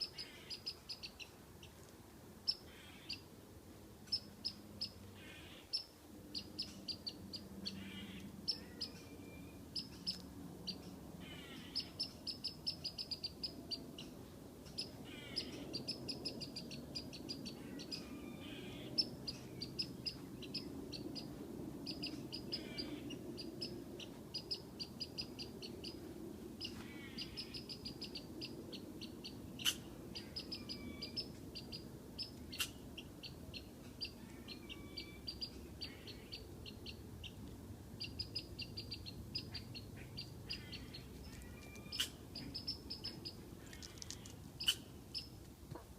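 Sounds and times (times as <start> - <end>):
squirrel chirping alarm calls: 0.0 - 1.7, 2.4 - 3.3, 4.0 - 37.4, 38.0 - 45.4.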